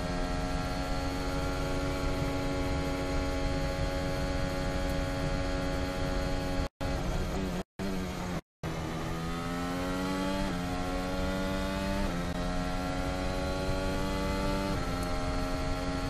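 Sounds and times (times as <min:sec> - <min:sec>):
racing car engine accelerating: 0:00.0 - 0:16.0.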